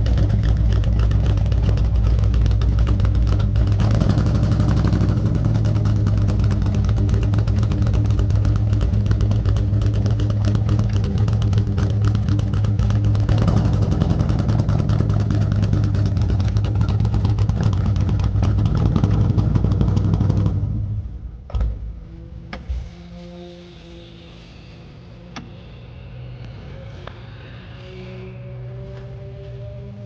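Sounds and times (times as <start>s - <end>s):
car engine exhaust rumble: 0.0s - 29.8s.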